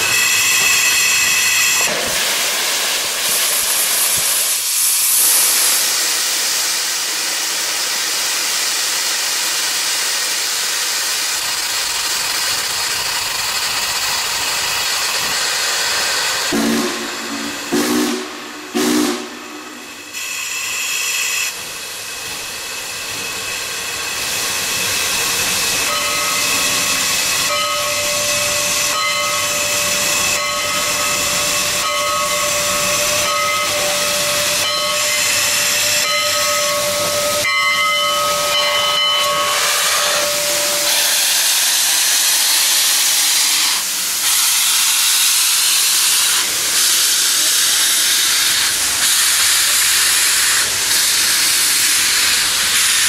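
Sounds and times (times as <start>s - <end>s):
steam locomotive venting steam: 0.0s - 53.0s.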